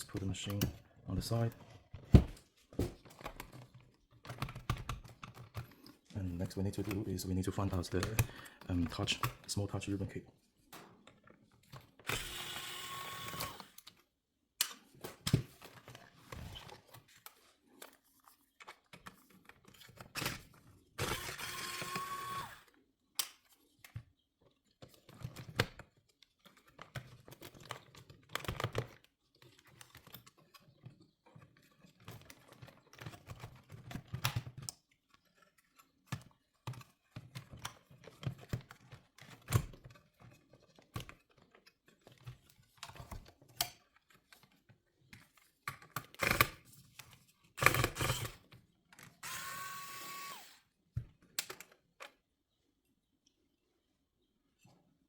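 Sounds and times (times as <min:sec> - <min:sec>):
plastic and metal parts clicking: 0:00.0 - 0:14.0, 0:14.6 - 0:52.2.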